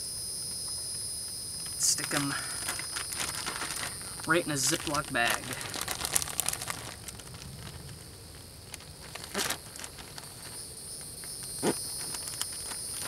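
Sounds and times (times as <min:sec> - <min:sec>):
high insect buzz: 0:00.0 - 0:13.0
plastic zipper bag crinkling: 0:01.6 - 0:10.6, 0:11.4 - 0:13.0.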